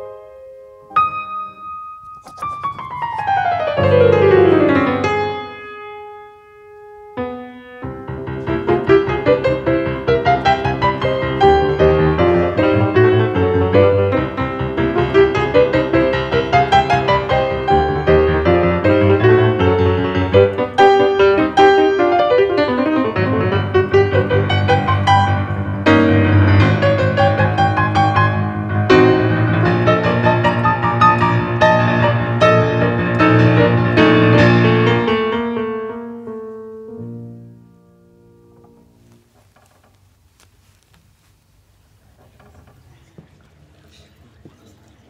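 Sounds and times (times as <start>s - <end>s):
grand piano playing: 0.0s - 39.4s.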